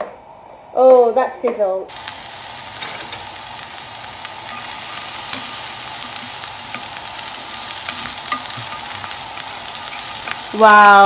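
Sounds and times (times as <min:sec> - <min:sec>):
food sizzling in a frying pan: 0:01.9 - 0:11.0.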